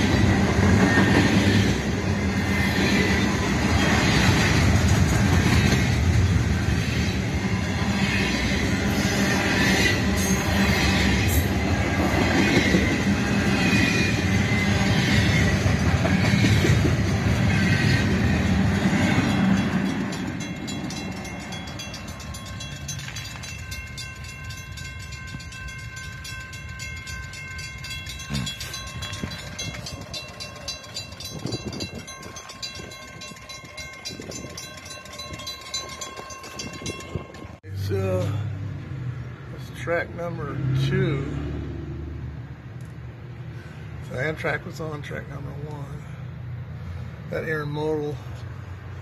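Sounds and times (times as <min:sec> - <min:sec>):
train cars rolling on rails: 0:00.0 - 0:41.5.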